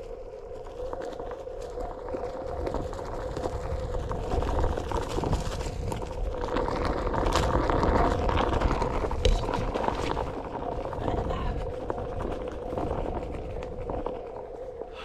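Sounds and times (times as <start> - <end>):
small clicks and crackles: 0.0 - 15.0
tyre rumbling on dirt: 0.0 - 15.0.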